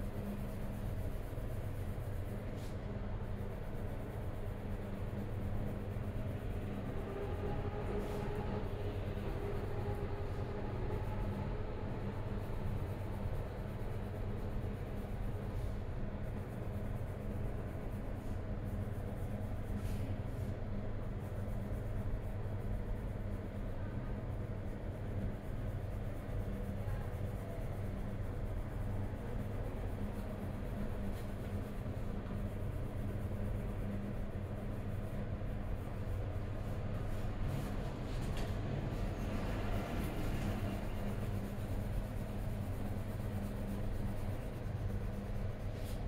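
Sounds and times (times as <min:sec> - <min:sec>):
pencil scratching on paper: 0:00.0 - 0:10.4, 0:12.0 - 0:46.0
steady low hum: 0:00.0 - 0:46.0.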